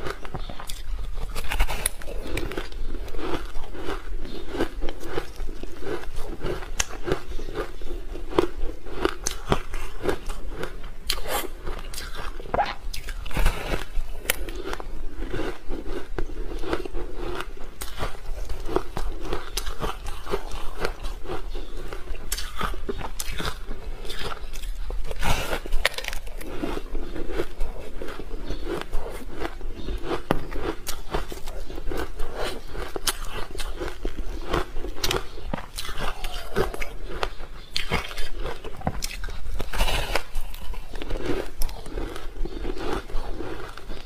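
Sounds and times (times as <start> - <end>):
person crunching ice: 0.0 - 44.0.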